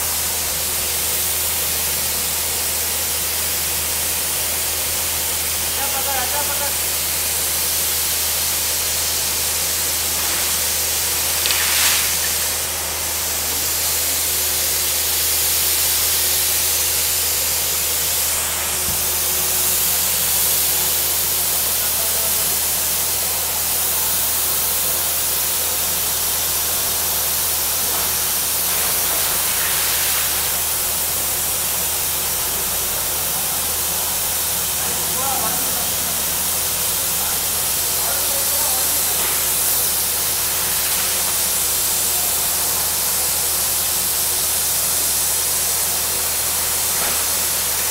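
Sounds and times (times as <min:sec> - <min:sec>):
compressed air hissing and gushing: 0:00.0 - 0:47.9.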